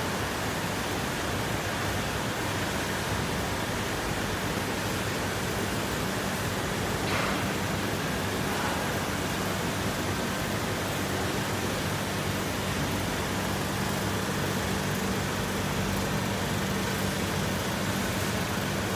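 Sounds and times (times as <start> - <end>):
machinery hum with hiss: 0.0 - 18.9.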